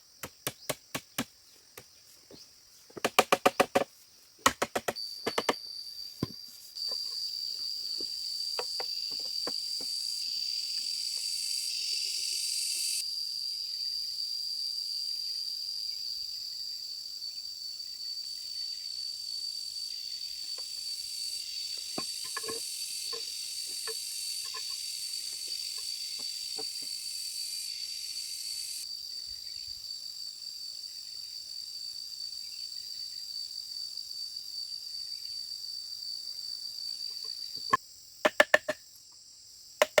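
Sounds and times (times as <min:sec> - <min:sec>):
insect high-pitched trill: 0:04.8 - 0:40.0
insect buzzing hiss: 0:05.0 - 0:40.0.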